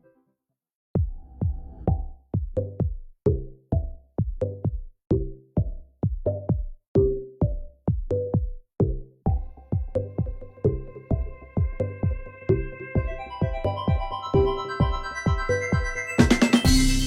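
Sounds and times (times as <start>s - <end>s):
electronic music with drum beat: 1.0s - 17.0s.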